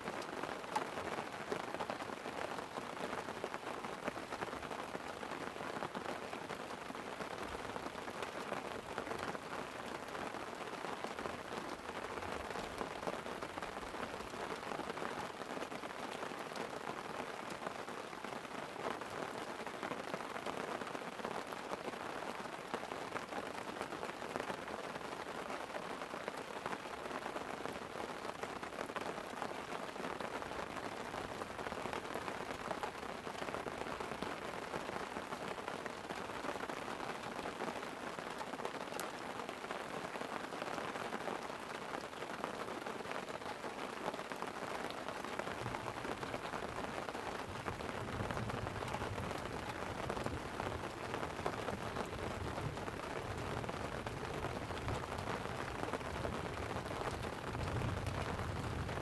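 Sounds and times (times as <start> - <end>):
light rain pattering on a tent: 0.0 - 59.0.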